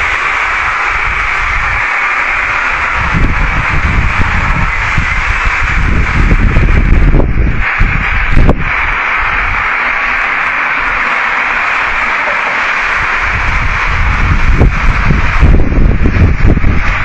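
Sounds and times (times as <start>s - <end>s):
loud steady hiss: 0.0s - 17.0s.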